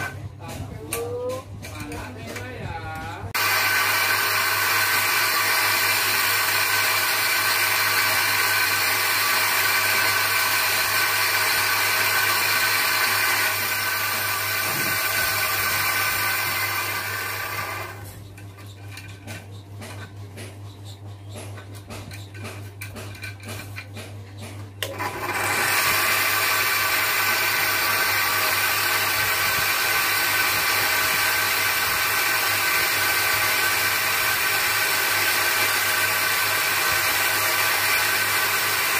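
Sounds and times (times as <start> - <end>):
bench grinder whining: 0.0 - 0.2, 3.4 - 20.0, 24.4 - 38.9.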